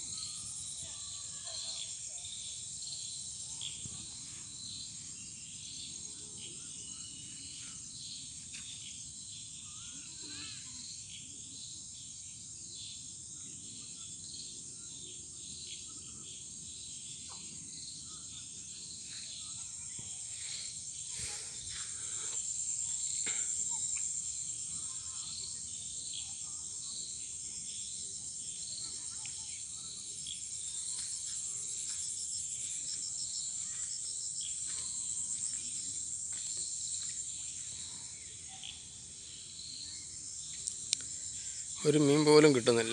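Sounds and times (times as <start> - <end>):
crickets and insects trilling: 0.0 - 42.9.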